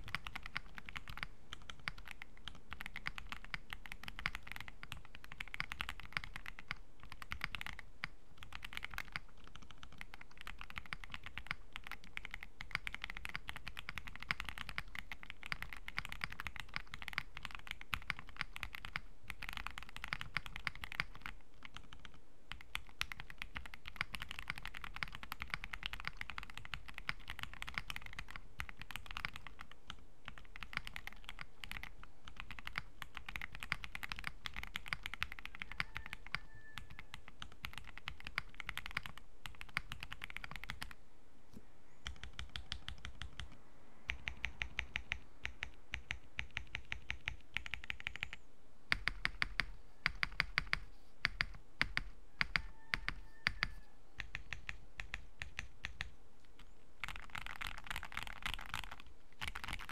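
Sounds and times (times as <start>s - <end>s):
mechanical keyboard typing: 0.0s - 41.0s, 42.0s - 59.9s.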